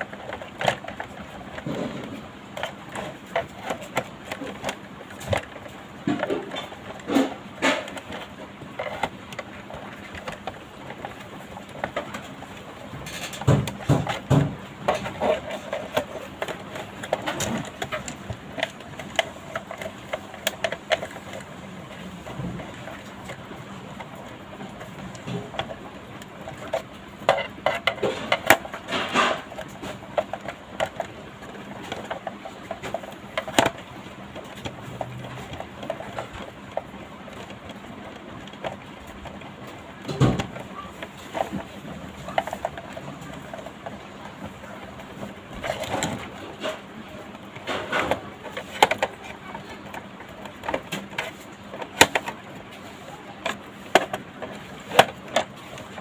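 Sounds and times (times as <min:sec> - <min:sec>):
clicks taps and knocks: 0:00.0 - 0:56.0.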